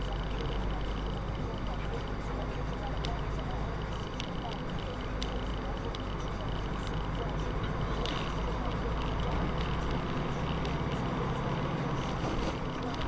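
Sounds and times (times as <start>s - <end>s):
car road and engine noise: 0.0s - 13.0s
faint ticks: 0.3s - 11.3s.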